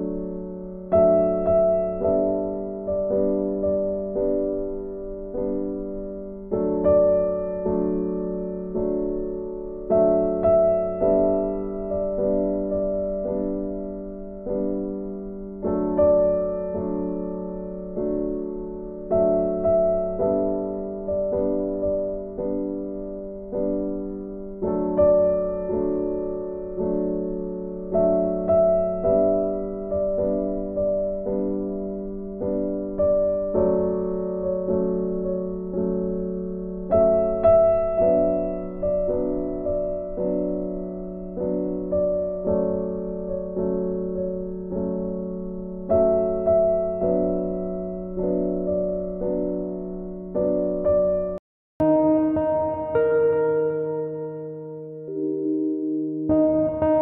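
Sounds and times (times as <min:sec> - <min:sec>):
slow piano chords: 0:00.0 - 0:57.0.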